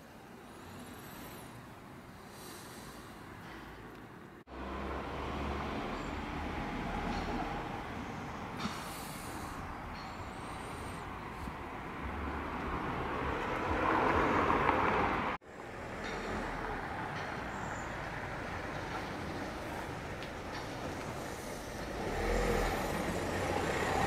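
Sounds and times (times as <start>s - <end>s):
outdoor background noise: 0.0s - 24.0s
passing vehicle: 0.5s - 24.0s.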